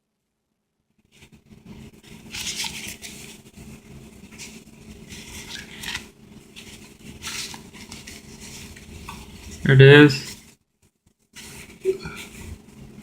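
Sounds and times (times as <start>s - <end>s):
paper napkin rustling: 1.1s - 13.0s.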